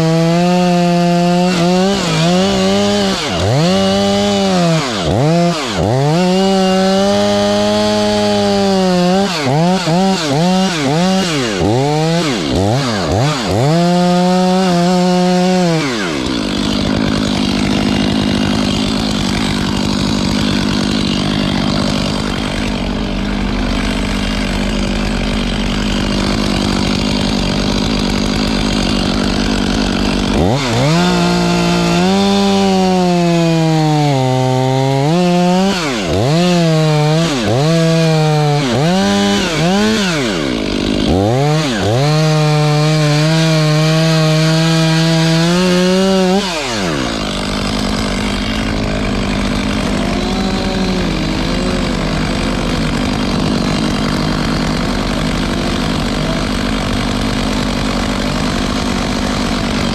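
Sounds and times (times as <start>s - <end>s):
chain cutting wood: 0.0s - 59.9s
chainsaw revving: 0.0s - 59.9s.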